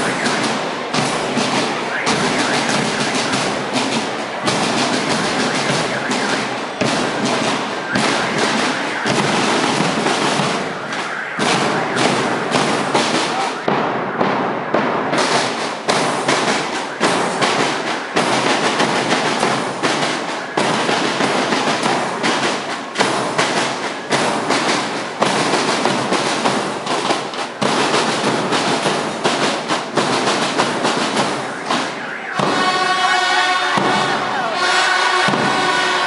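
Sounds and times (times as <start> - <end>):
marching snare drums: 0.0 - 36.0.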